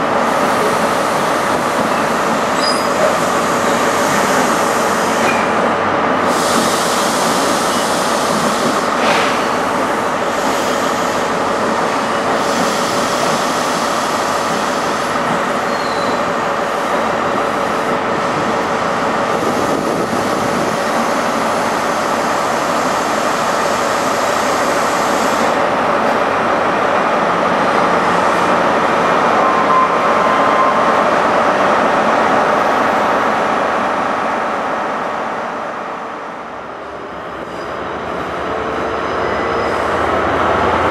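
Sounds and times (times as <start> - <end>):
diesel train engine running: 0.0 - 40.9.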